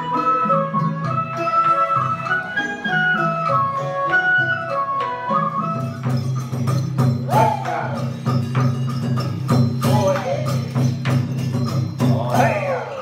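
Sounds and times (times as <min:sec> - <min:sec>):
wooden percussion strikes: 0:00.0 - 0:13.0.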